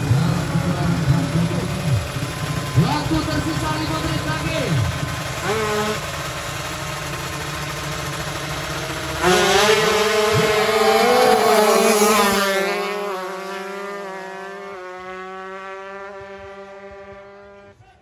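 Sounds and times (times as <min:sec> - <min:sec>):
two-stroke motorcycle engines screaming: 0:00.0 - 0:18.0.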